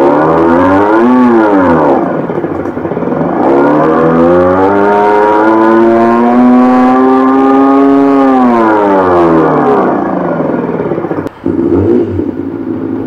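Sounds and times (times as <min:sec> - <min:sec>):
synthetic engine note revving: 0:00.0 - 0:13.0.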